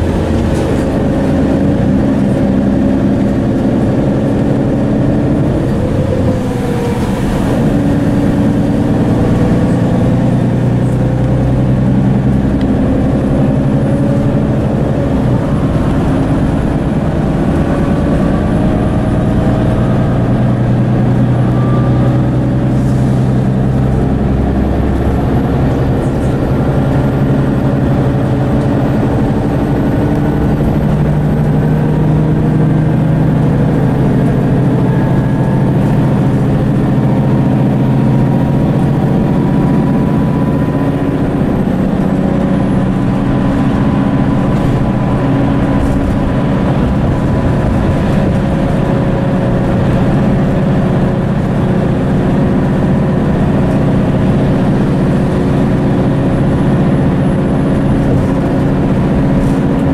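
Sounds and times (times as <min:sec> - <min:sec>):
bus diesel engine running: 0:00.0 - 0:59.9
road noise: 0:00.0 - 0:59.9.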